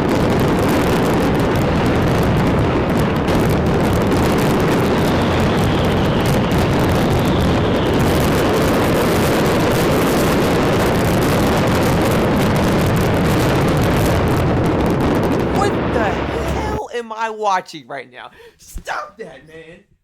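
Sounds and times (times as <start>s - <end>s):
fireworks barrage: 0.0s - 19.8s.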